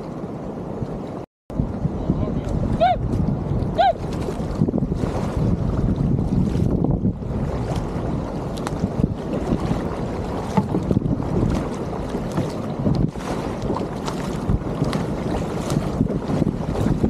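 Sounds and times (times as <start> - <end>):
paddles splashing in water: 0.0 - 17.0
sea water sloshing: 0.0 - 17.0
wind on microphone: 0.0 - 17.0.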